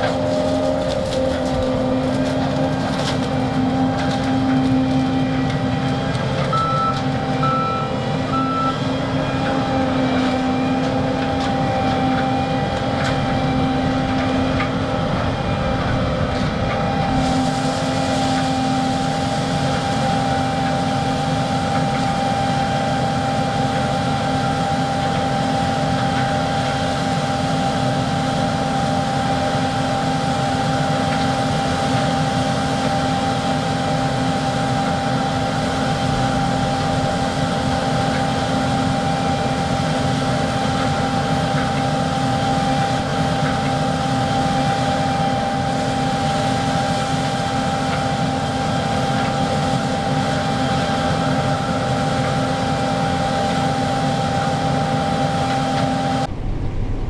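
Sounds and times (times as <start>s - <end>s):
combine harvester drone: 0.0s - 57.0s
high auger whine: 0.0s - 57.0s.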